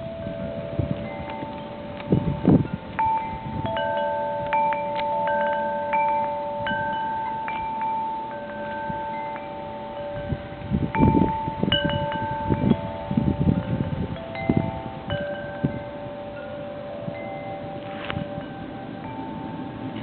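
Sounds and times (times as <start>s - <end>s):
wind chimes ringing: 0.0s - 20.0s
wind gusts buffeting microphone: 0.0s - 20.0s.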